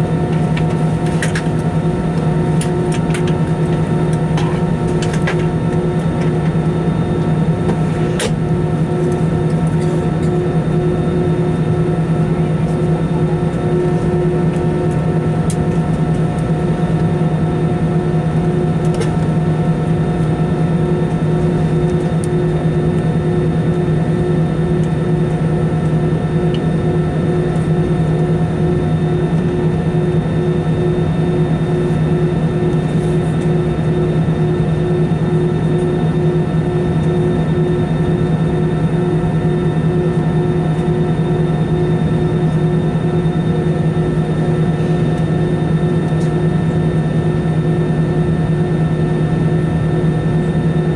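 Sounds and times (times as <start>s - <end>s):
aircraft cabin drone: 0.0s - 50.9s.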